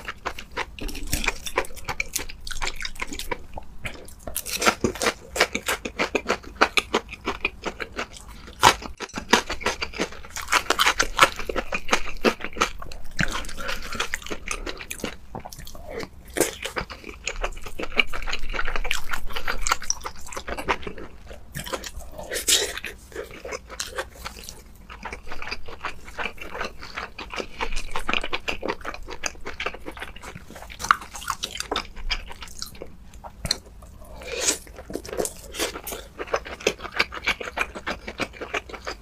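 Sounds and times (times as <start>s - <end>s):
wet chewing and crunching: 0.0s - 39.0s.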